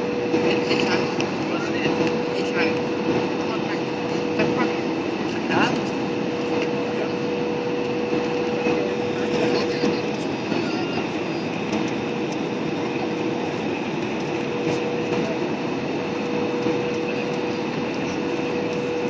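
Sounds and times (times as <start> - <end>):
airliner cabin noise: 0.0 - 19.0
constant humming tone: 0.0 - 19.0.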